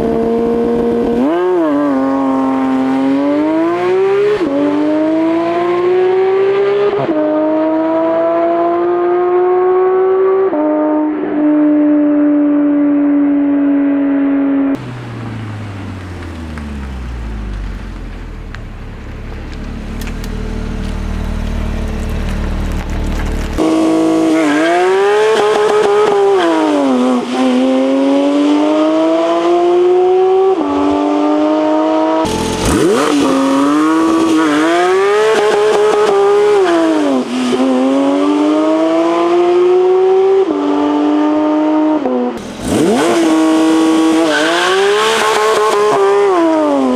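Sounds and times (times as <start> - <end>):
sports car engine revving: 0.0 - 12.5, 14.6 - 46.9.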